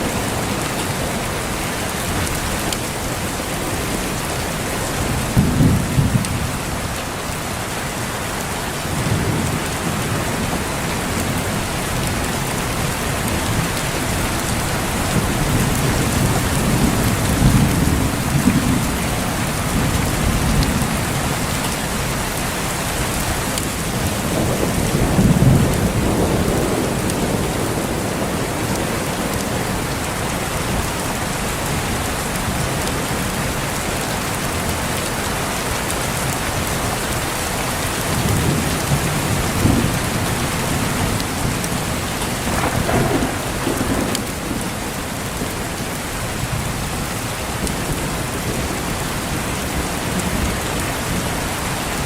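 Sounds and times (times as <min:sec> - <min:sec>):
thunder rumbling: 0:00.0 - 0:07.0, 0:08.7 - 0:22.4, 0:23.0 - 0:31.2, 0:37.6 - 0:51.9
heavy rain falling: 0:00.0 - 0:52.0.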